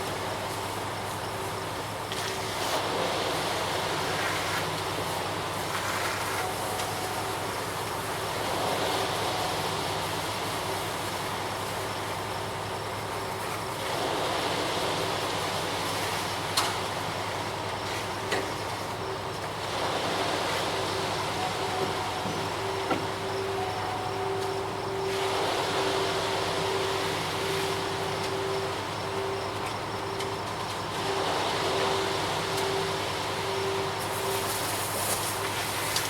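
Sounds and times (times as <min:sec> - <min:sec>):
concrete truck engine humming: 0:00.0 - 0:36.0.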